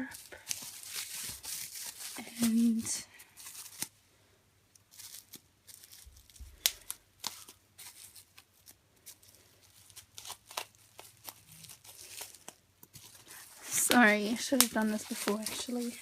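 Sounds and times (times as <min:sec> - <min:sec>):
bubble wrap crackling: 0:00.0 - 0:04.0, 0:04.6 - 0:16.0.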